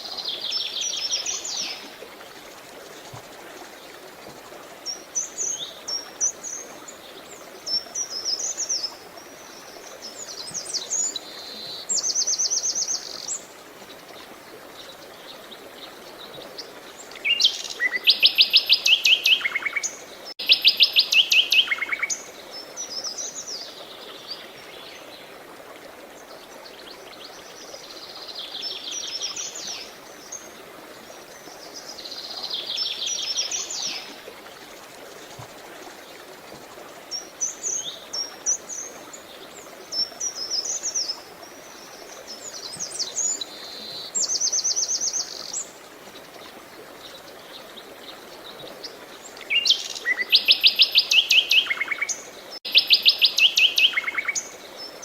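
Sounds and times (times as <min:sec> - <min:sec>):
songbirds singing: 0:00.0 - 0:25.4, 0:26.2 - 0:55.0
running water hiss: 0:00.0 - 0:55.0.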